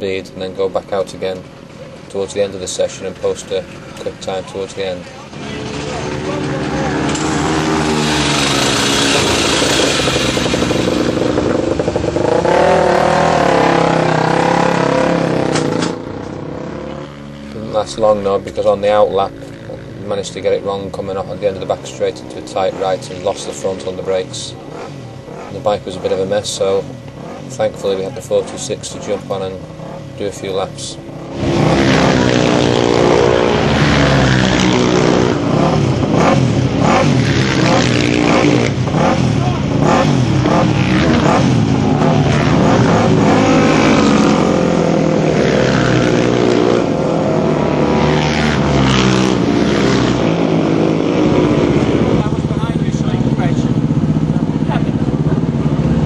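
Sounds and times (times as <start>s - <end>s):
racing motorcycle engine revving: 0.0s - 56.0s.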